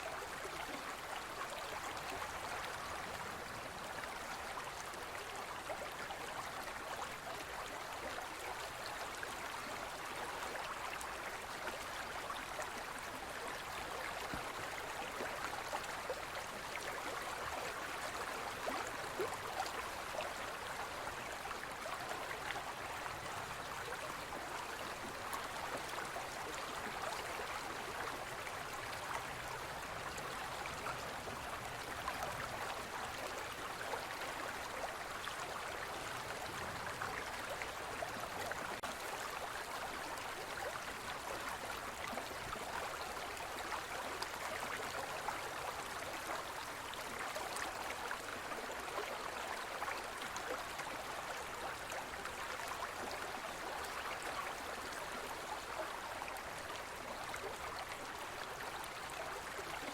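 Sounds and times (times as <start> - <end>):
stream babbling: 0.0 - 59.9.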